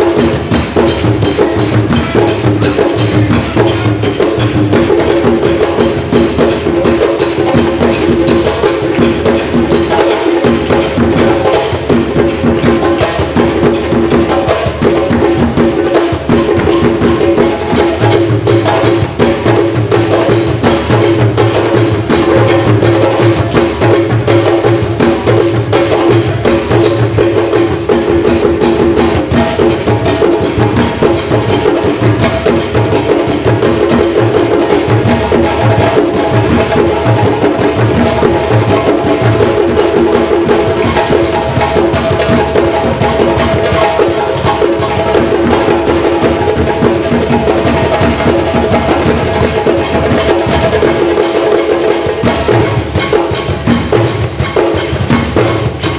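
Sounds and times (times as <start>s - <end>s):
djembes played by hand: 0.0s - 55.9s.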